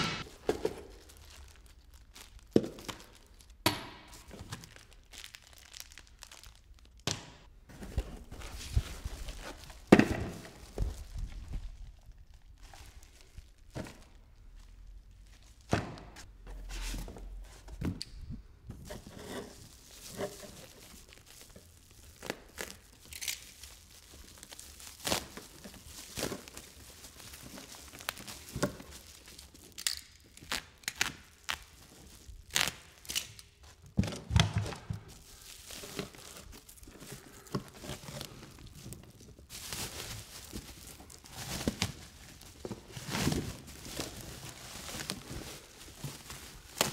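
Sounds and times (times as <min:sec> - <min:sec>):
plastic bag crinkling and tearing: 0:00.2 - 0:07.0, 0:07.9 - 0:13.8, 0:18.9 - 0:33.9, 0:35.0 - 0:46.9.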